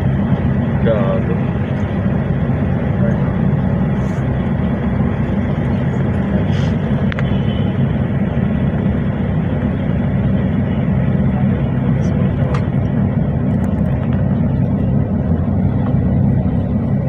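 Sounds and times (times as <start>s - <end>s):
vehicle rumbling in motion: 0.0s - 17.0s.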